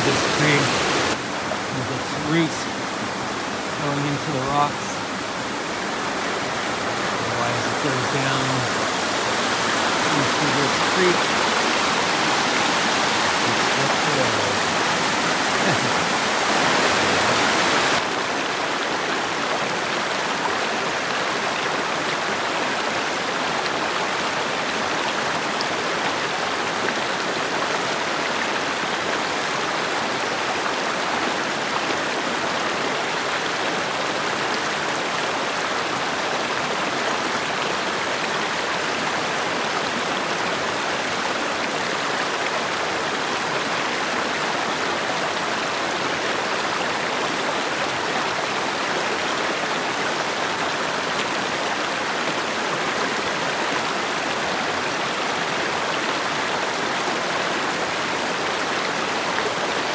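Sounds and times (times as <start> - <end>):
creek rushing: 0.0 - 59.9.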